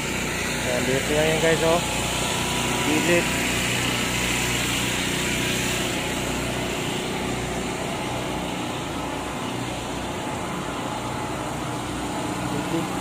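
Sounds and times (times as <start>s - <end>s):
engine hum: 0.0s - 13.0s
outdoor background noise: 0.0s - 13.0s.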